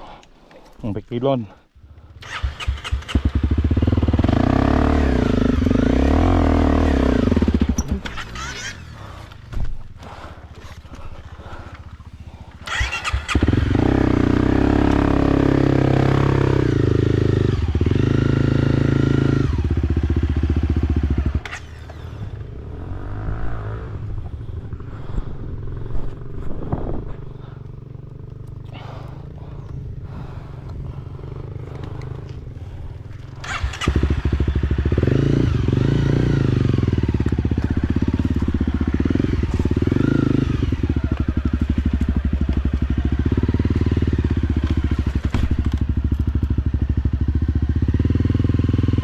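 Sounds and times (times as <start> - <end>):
off-road vehicle engine revving: 2.2 - 49.0.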